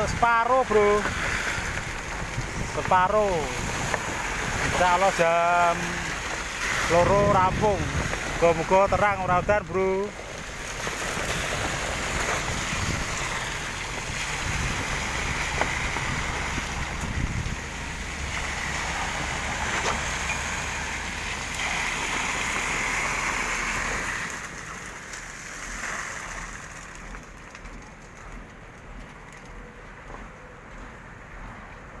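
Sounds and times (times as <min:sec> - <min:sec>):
concrete pump rushing: 0:00.0 - 0:32.0
low engine hum: 0:00.0 - 0:32.0.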